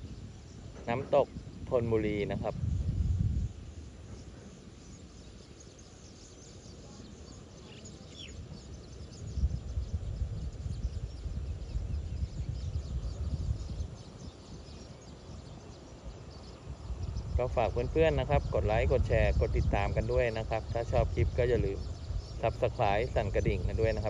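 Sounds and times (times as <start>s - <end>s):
low gusty rumble: 0.0s - 5.2s, 8.3s - 24.0s
insects chirping: 0.0s - 24.0s.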